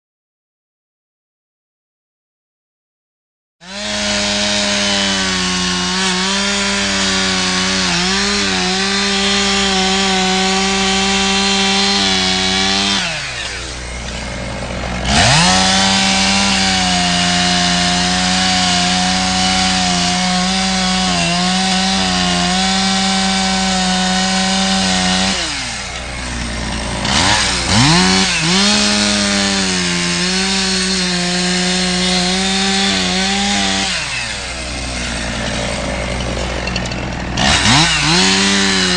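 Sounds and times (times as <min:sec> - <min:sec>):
chainsaw cutting and revving: 0:03.6 - 0:38.9.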